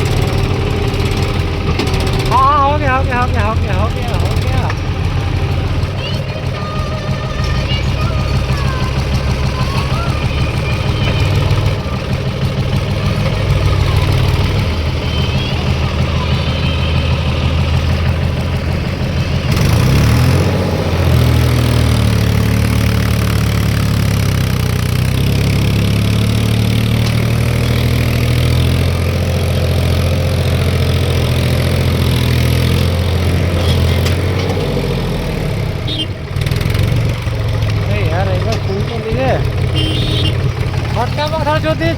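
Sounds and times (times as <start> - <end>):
tractor diesel engine straining: 0.0 - 41.9.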